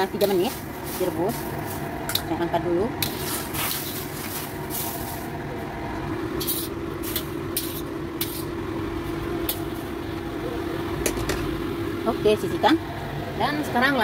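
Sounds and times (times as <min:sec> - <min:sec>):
kitchen roar: 0:00.0 - 0:14.0
steady hum: 0:00.0 - 0:14.0.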